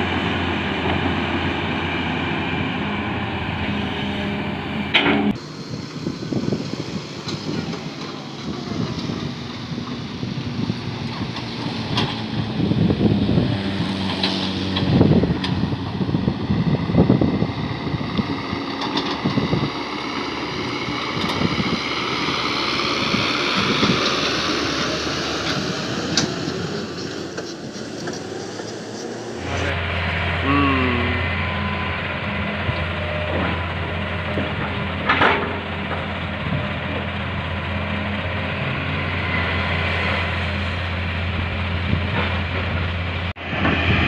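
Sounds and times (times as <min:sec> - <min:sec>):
excavator engine and hydraulics: 0:00.0 - 0:44.0.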